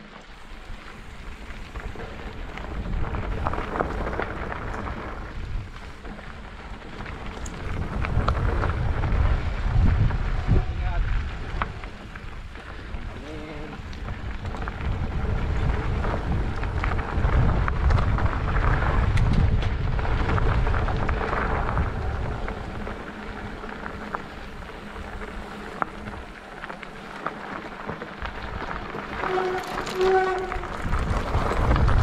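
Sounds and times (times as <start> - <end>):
bike tyres crunching on rocks: 0.0 - 32.0
wind buffeting microphone: 0.4 - 32.0.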